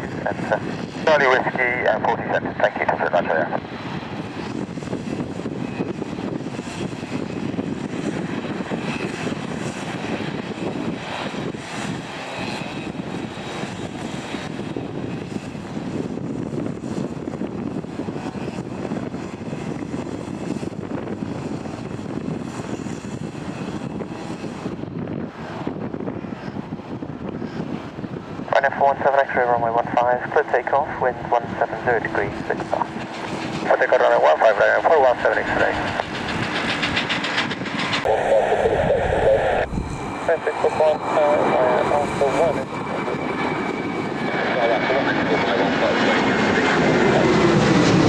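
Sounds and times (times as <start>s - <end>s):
airliner engines running: 0.0s - 48.0s.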